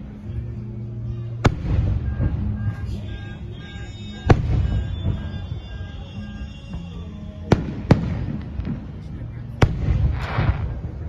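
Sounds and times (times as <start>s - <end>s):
fireworks crackling and rumbling: 0.0s - 11.0s
music: 0.0s - 11.0s
fireworks exploding: 1.4s - 11.0s.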